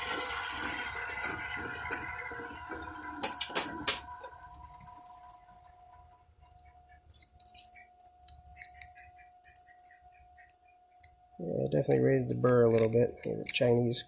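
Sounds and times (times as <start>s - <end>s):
faint machine hum: 0.0s - 14.0s.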